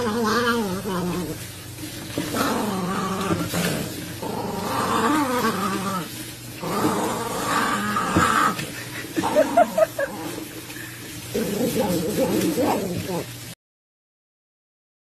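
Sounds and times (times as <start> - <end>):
dog growling: 0.0 - 1.6, 2.2 - 13.4.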